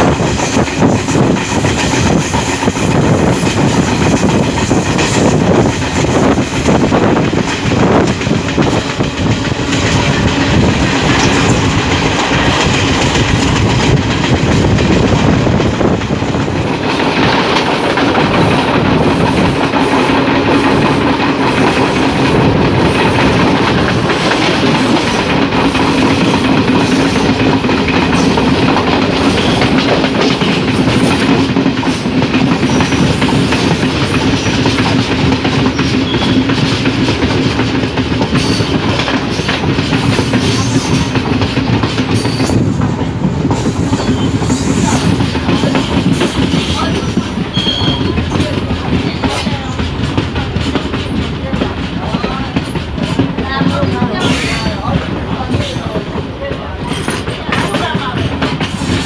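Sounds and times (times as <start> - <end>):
train wheels on rail rushing: 0.0 - 59.0.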